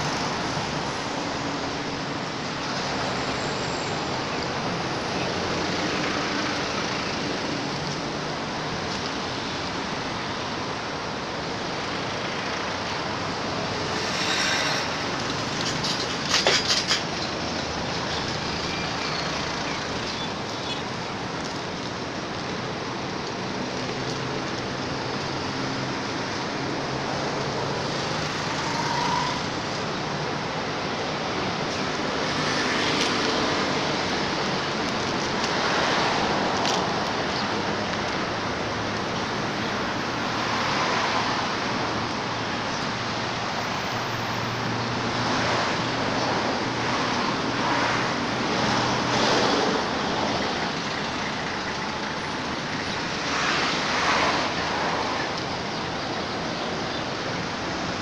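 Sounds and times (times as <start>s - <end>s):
outdoor background rushing noise: 0.0s - 58.0s.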